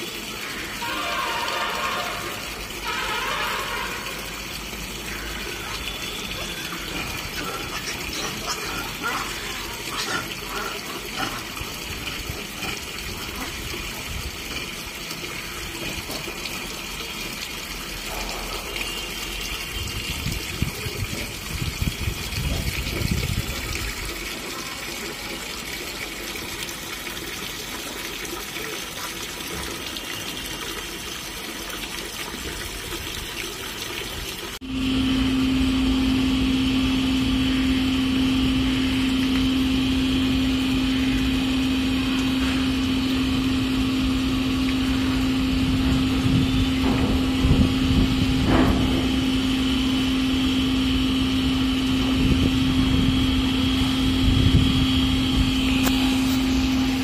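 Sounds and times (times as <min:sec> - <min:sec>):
low machine hum: 0:00.0 - 0:28.8, 0:34.6 - 0:57.0.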